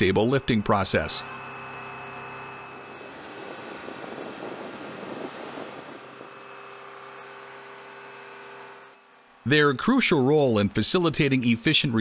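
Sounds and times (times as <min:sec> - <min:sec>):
machinery hum with high whine: 0:00.0 - 0:12.0.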